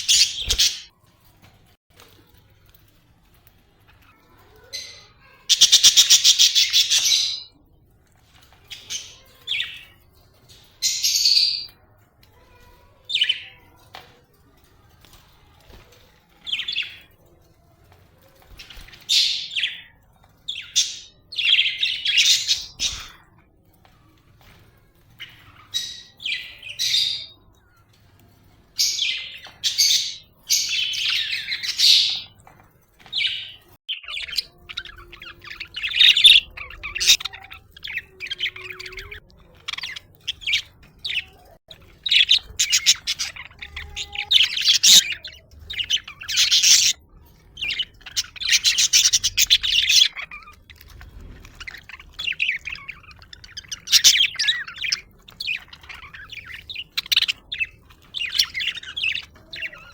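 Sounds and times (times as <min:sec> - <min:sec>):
budgerigars chirping and warbling: 0:00.0 - 0:00.9, 0:03.4 - 0:14.2, 0:15.0 - 0:17.3, 0:17.9 - 0:59.9.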